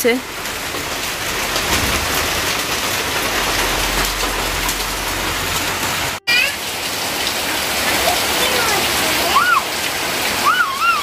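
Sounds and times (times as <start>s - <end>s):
heavy rain drumming on roof: 0.0s - 11.0s.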